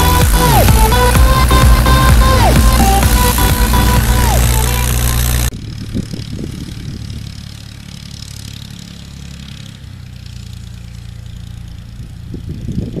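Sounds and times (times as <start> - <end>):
distant tractor engine drone: 0.0 - 13.0.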